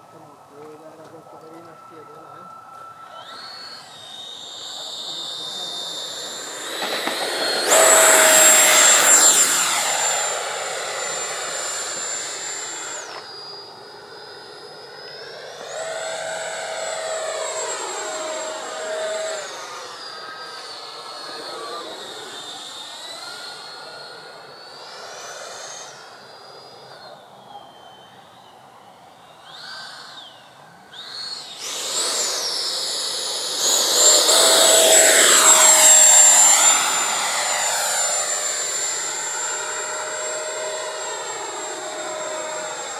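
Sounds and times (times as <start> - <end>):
model jet fan whining: 0.0 - 42.9.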